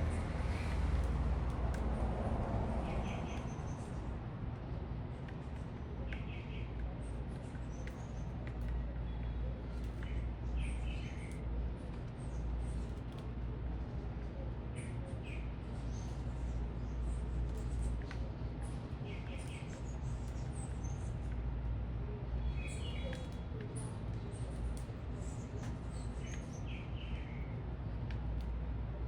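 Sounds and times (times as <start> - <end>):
low city rumble: 0.0 - 29.0
small birds chirping: 2.8 - 28.7.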